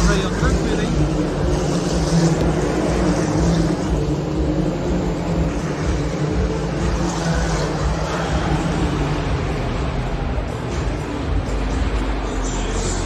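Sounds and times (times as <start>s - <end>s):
racing car engines droning: 0.0s - 13.0s.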